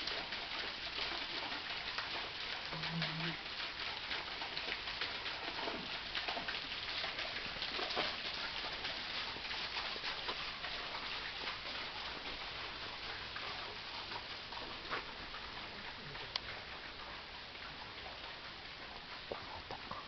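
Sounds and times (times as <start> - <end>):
waterfall splashing onto rock: 0.0 - 16.4.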